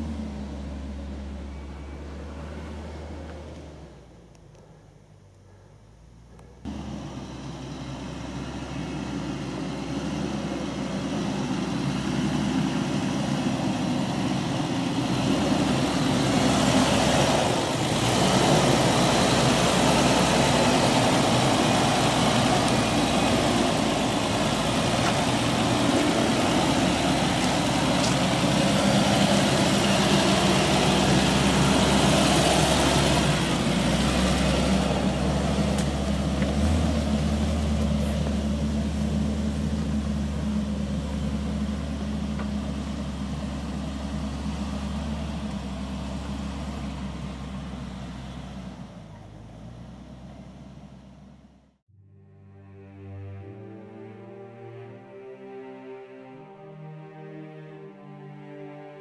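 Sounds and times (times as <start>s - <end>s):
tyres on dirt and gravel: 0.0s - 5.3s, 6.2s - 51.6s
vehicle engine running: 0.0s - 51.8s.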